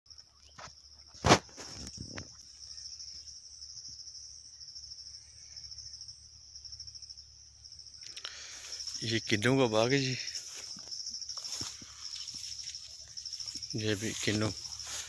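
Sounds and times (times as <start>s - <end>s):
insects buzzing trill: 0.1s - 15.0s.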